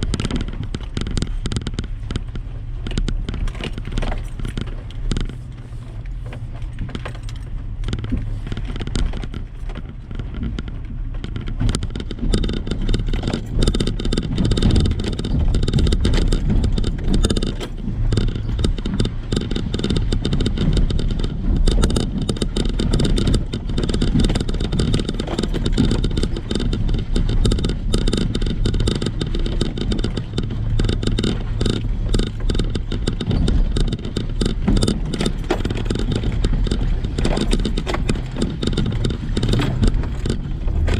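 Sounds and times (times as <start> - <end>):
clattering and rattling of loose items: 0.0 - 40.9
truck engine running: 0.0 - 40.9.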